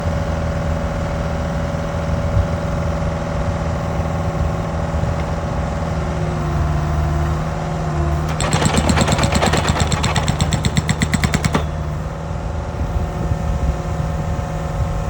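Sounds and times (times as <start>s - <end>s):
excavator engine running: 2.6s - 15.0s.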